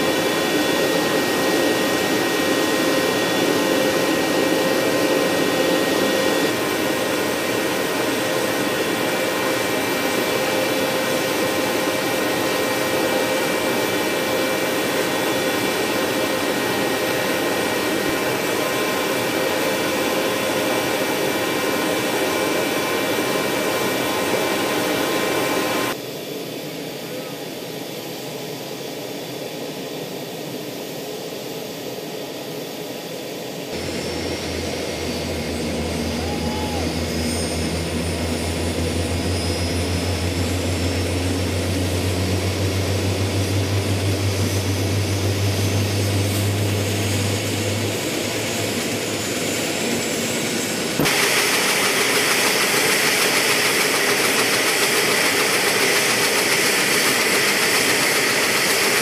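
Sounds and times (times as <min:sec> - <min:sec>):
helicopter turbine engine whine: 0:00.0 - 0:59.0.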